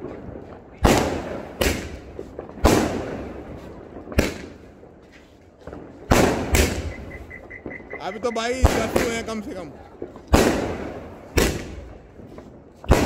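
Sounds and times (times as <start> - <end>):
firework cake bangs: 0.0 - 4.6, 5.7 - 13.0.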